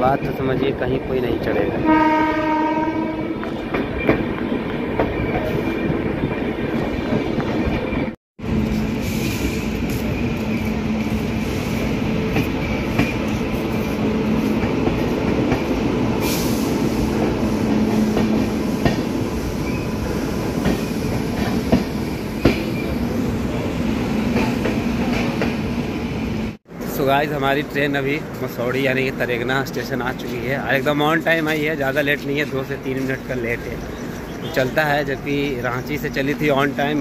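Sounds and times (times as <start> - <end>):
train wheels rumbling on rails: 0.1 - 37.0.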